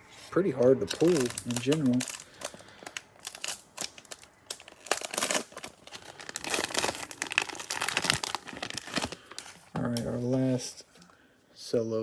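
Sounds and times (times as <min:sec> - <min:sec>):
plastic wrapper crinkling: 0:00.1 - 0:10.7.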